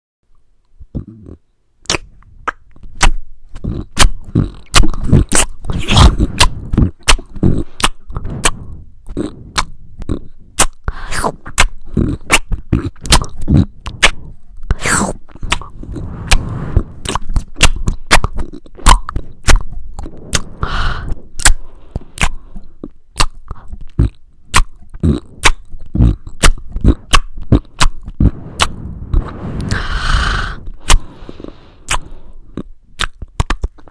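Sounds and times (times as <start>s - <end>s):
wet chewing and lip-smacking: 1.8s - 20.7s, 21.4s - 28.8s, 30.6s - 33.9s.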